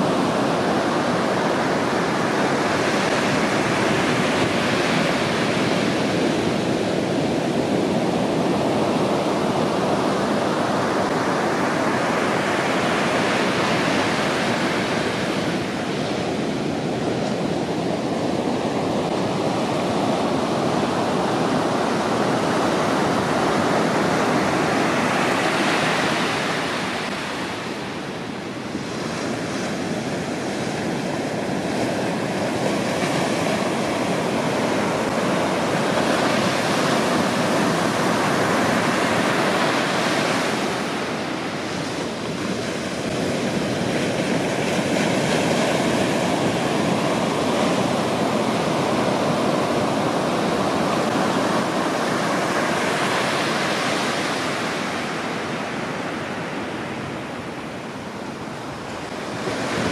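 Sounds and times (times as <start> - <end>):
ocean surf on beach: 0.0 - 59.9.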